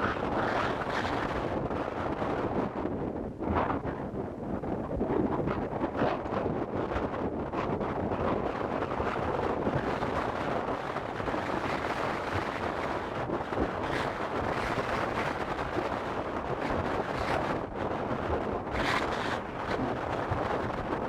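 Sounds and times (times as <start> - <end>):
blizzard wind blowing hard: 0.0 - 21.0
gusts buffeting microphone: 0.0 - 21.0.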